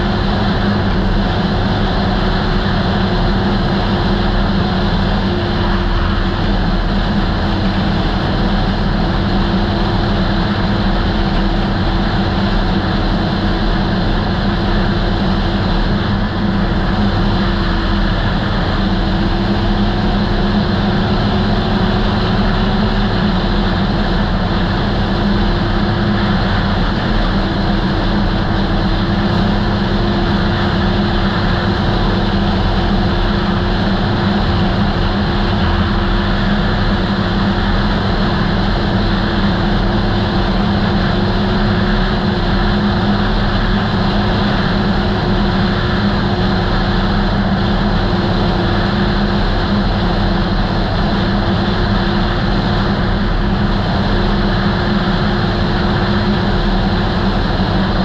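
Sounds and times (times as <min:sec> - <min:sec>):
snowmobile engine running: 0:00.0 - 0:58.0
track and trail noise: 0:00.0 - 0:58.0.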